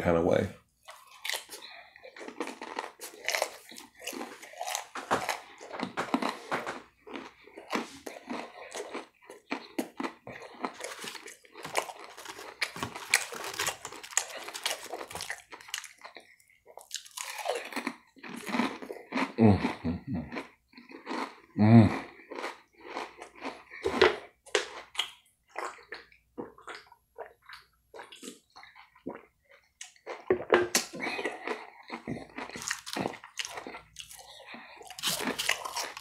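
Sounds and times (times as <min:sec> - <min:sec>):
man chewing crunchy food: 0:00.8 - 0:36.0.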